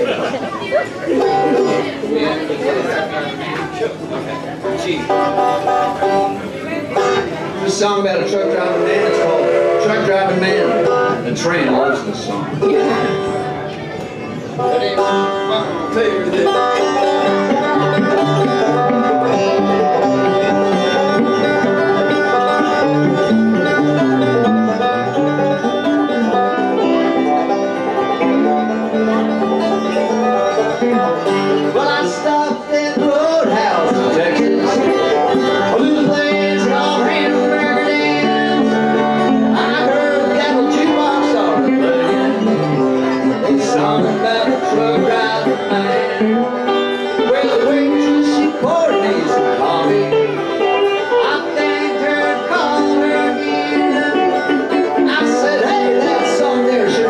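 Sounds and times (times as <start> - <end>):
banjo picking: 0.0 - 57.0
electric guitar: 0.0 - 57.0.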